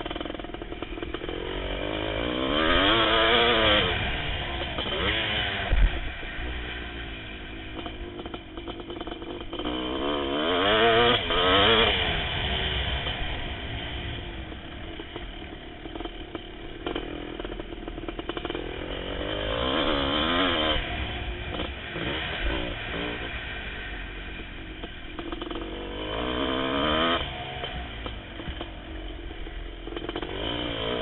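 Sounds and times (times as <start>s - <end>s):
motocross engine revving: 0.0s - 31.0s.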